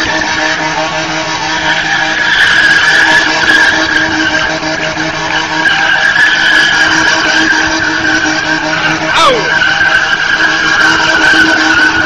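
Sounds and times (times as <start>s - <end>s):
car tyres squealing: 0.0s - 12.0s.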